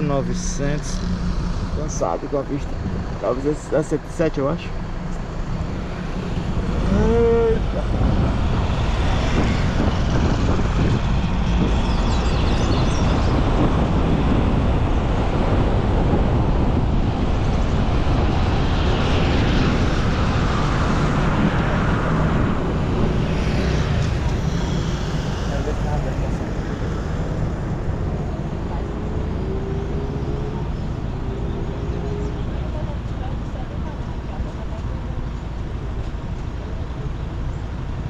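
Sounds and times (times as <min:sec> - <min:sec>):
road and wind noise: 0:00.0 - 0:38.0.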